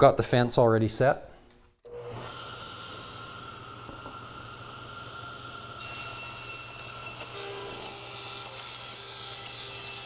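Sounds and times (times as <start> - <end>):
table saw motor whine: 1.9 - 10.0.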